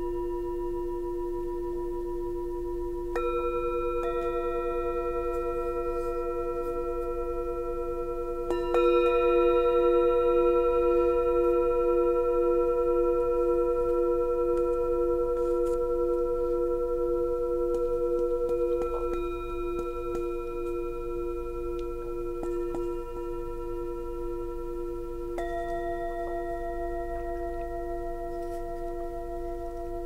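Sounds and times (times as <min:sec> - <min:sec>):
singing bowls ringing: 0:00.0 - 0:30.0.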